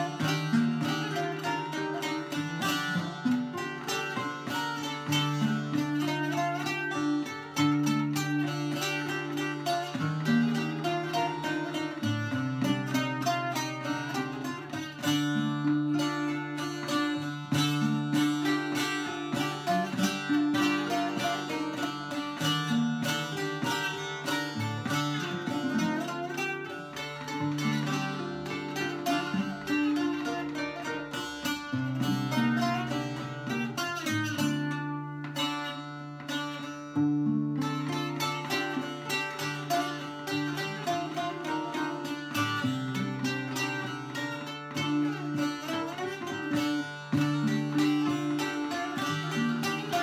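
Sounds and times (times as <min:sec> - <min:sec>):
acoustic guitar: 0:00.0 - 0:50.0
plucked lute melody: 0:00.0 - 0:50.0.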